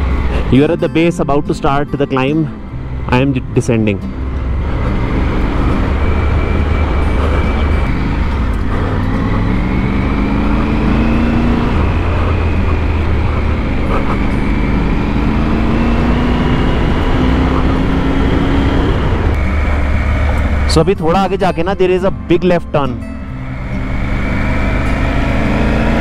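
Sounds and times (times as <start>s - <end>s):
motorcycle engine pulling hard: 4.2s - 26.0s.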